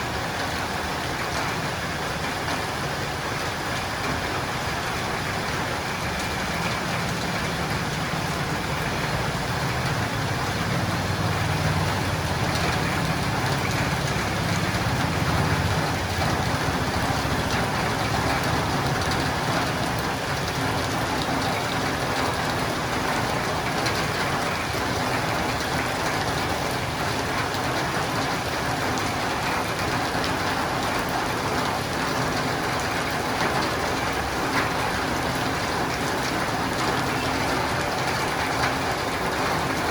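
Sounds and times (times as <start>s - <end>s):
rain on roof and windows: 0.0s - 39.9s.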